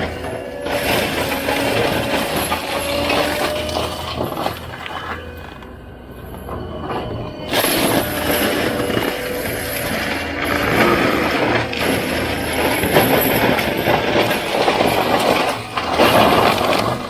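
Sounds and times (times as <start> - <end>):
diesel loader mulching brush: 0.0 - 17.0
wood debris cracking and clinking: 0.0 - 17.0.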